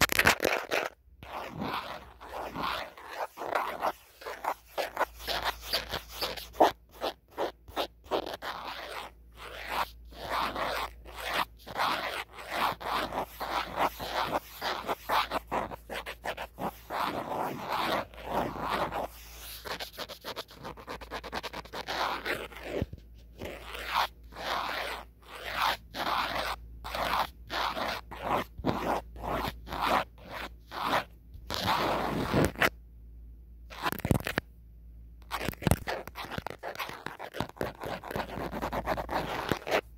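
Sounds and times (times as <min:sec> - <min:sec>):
fingernails scratching on phone: 0:00.0 - 0:32.7, 0:33.7 - 0:34.4, 0:35.2 - 0:39.9.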